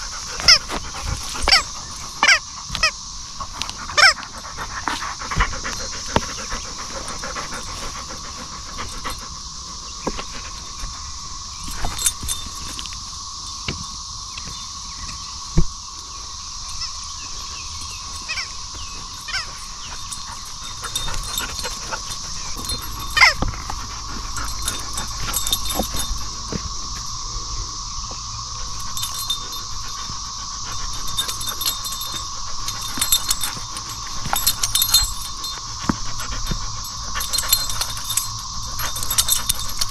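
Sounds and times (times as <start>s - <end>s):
dog panting: 0.0s - 12.8s, 16.8s - 27.1s, 28.6s - 39.9s
high-pitched hum: 0.0s - 39.9s.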